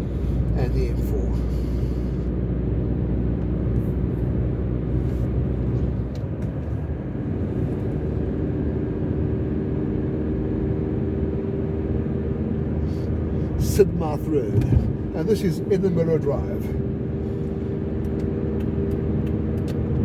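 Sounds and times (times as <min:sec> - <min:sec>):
car engine: 0:00.0 - 0:20.0
road noise: 0:00.0 - 0:20.0.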